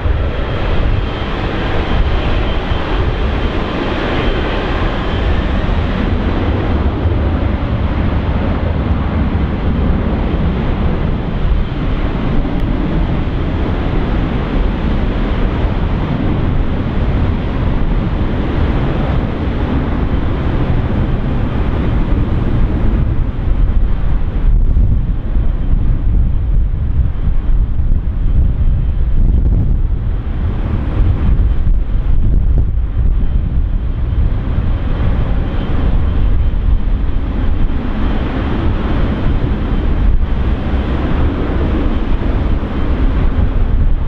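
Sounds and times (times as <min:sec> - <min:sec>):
high engine whine: 0:00.0 - 0:44.0
jet engine roar: 0:00.0 - 0:44.0
wind buffeting microphone: 0:00.0 - 0:44.0.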